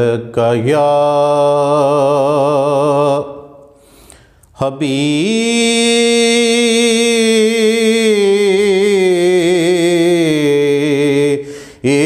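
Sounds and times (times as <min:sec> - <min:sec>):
man singing unaccompanied: 0:00.0 - 0:03.5, 0:04.6 - 0:12.0.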